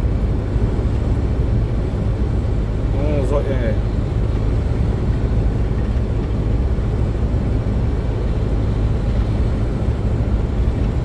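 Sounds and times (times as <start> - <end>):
vehicle driving on highway: 0.0 - 11.0.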